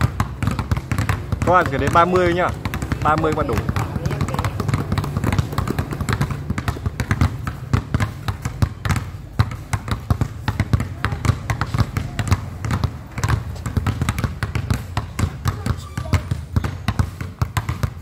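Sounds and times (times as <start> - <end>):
basketball bouncing on concrete: 0.0 - 18.0.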